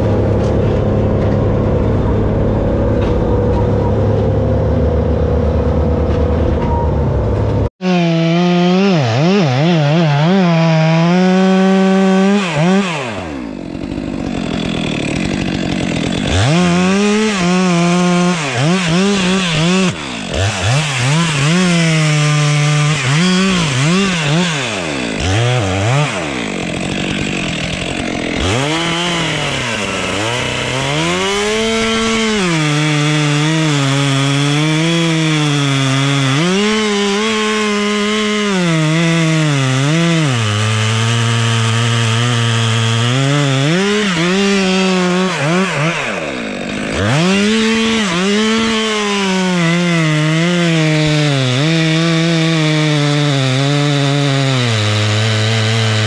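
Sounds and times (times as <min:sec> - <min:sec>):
chainsaw revving and cutting wood: 0:00.0 - 0:06.4, 0:07.6 - 0:56.0.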